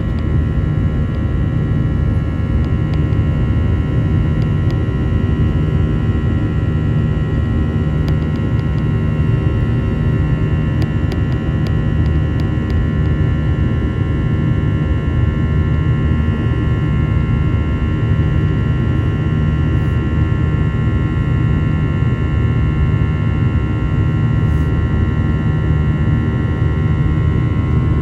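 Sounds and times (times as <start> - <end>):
jet engine drone in cabin: 0.0 - 28.0.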